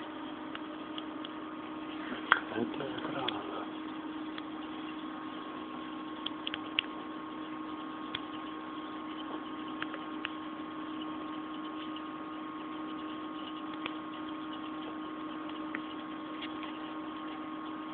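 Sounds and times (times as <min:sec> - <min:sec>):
machine hum with two tones: 0:00.0 - 0:17.9.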